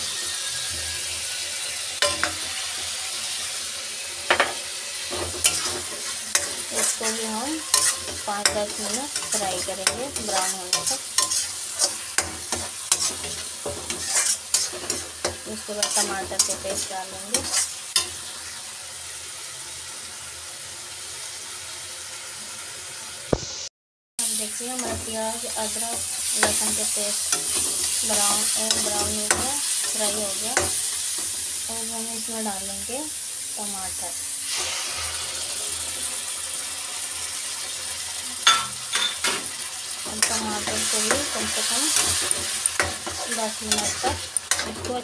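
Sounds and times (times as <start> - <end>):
paste sizzling in hot oil: 0.0 - 45.0.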